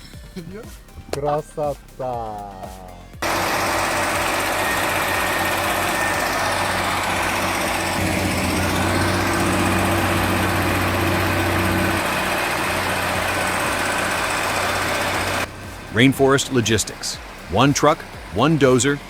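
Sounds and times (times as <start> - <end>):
engine running: 3.2 - 19.0.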